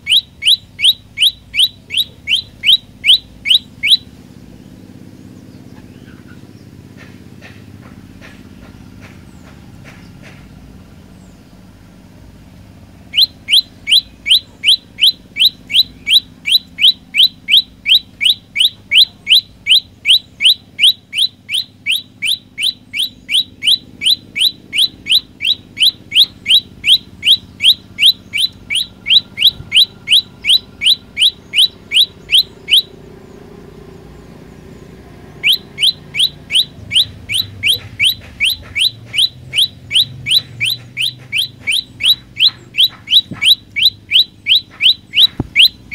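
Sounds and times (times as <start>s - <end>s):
bird singing sharp rising notes: 0.0s - 7.0s, 9.2s - 45.9s.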